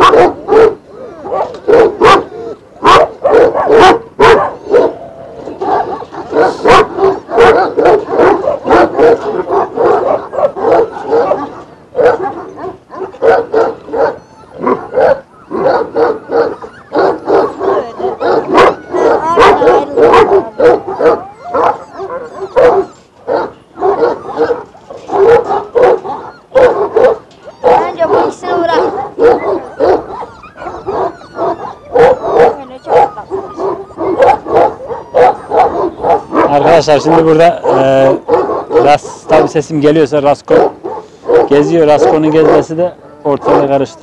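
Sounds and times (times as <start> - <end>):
dogs barking: 0.0 - 44.0.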